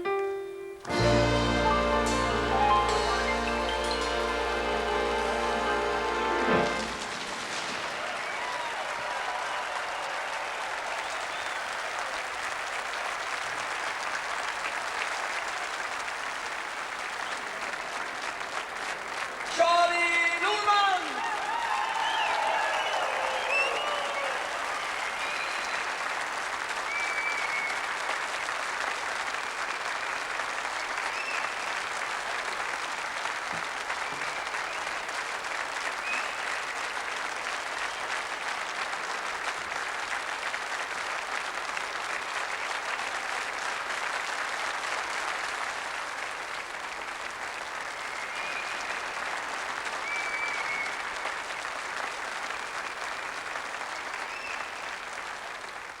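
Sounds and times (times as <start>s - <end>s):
audience applauding: 0.8s - 56.0s.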